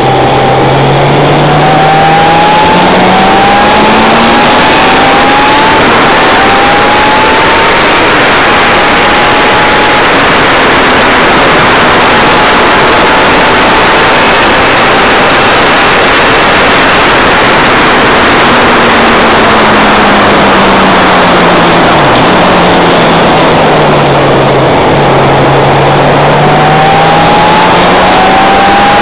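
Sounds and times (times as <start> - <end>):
racing motorcycle engine: 0.0 - 29.0
wind roar on microphone: 0.0 - 29.0.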